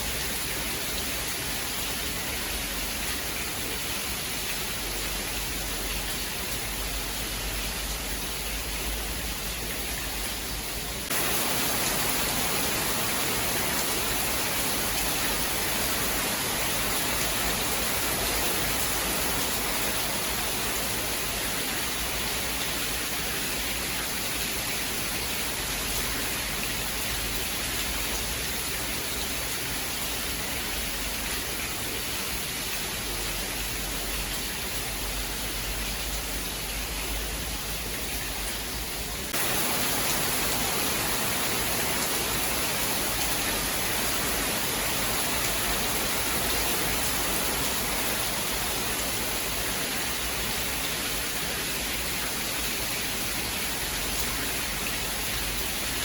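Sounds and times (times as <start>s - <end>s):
rainfall hissing: 0.0s - 56.0s.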